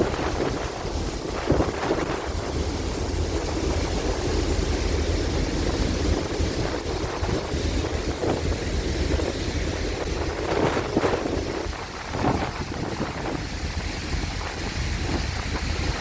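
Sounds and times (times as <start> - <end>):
sea rushing: 0.0 - 16.0
ship engines humming: 0.0 - 16.0
wind buffeting microphone: 0.0 - 16.0.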